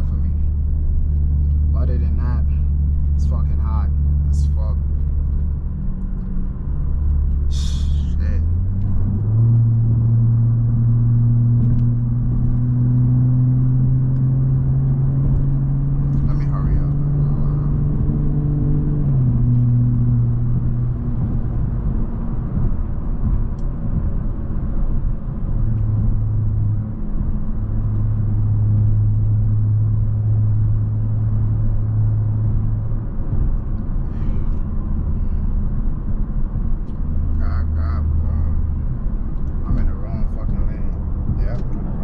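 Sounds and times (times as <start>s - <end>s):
car exhaust drone: 0.0s - 42.0s
road rumble: 0.0s - 42.0s.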